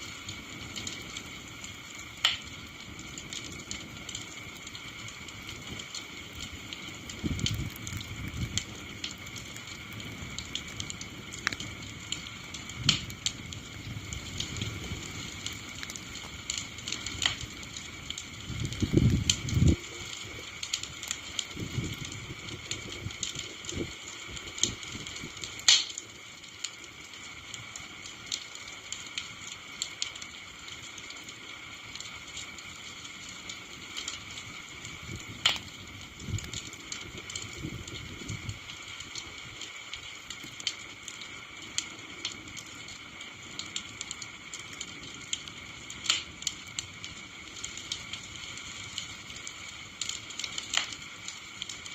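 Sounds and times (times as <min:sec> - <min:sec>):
campfire crackling and popping: 0:00.0 - 0:51.9
flame hissing: 0:00.0 - 0:51.9.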